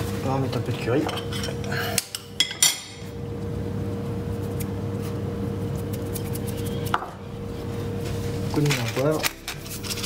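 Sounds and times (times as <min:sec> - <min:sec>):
electric hum: 0:00.0 - 0:10.0.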